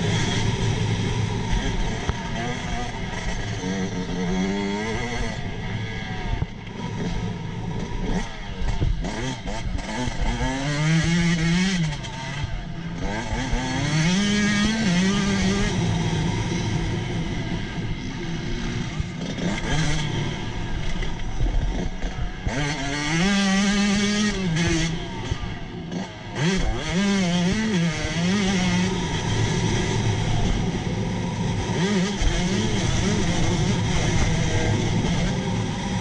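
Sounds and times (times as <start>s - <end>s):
motorbike engine revving: 0.0s - 36.0s.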